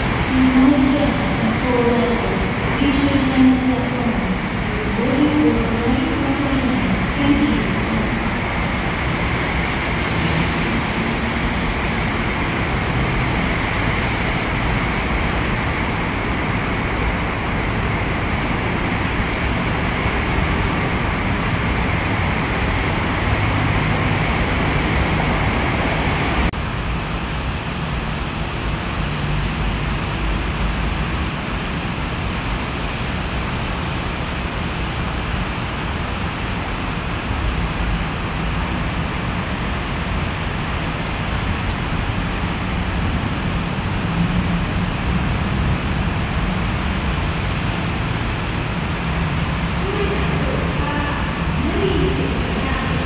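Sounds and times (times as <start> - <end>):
road traffic noise: 0.0 - 53.0.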